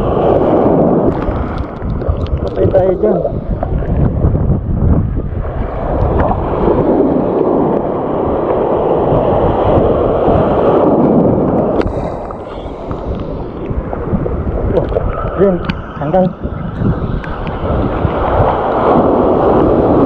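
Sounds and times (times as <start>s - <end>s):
surf washing over reef: 0.0s - 20.0s.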